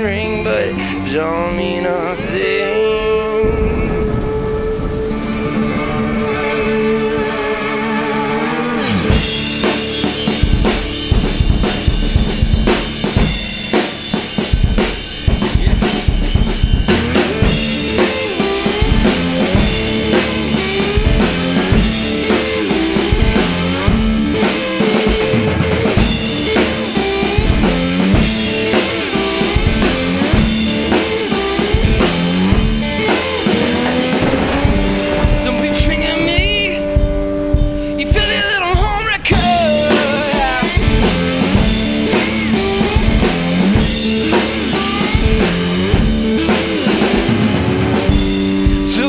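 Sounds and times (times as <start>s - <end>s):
electric guitar bending notes: 0.0s - 49.0s
bass drum and snare hits: 9.2s - 49.0s.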